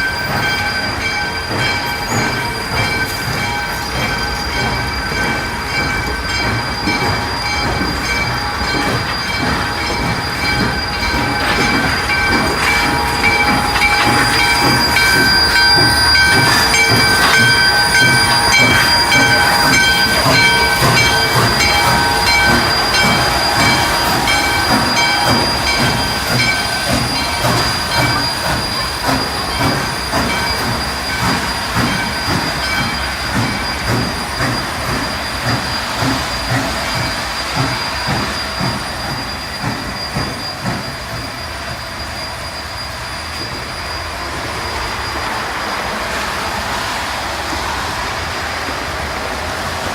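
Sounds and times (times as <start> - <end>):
high-pitched squealing: 0.0 - 46.6
steam locomotive chuffing: 0.0 - 49.9.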